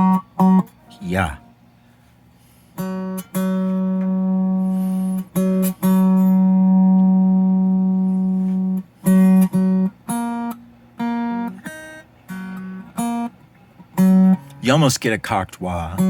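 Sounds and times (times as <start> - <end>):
electric guitar single notes: 0.0 - 1.7, 2.8 - 14.9.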